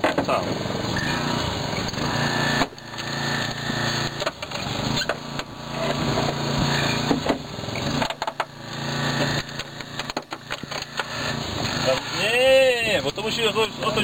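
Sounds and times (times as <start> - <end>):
small petrol engine running: 0.0 - 14.0.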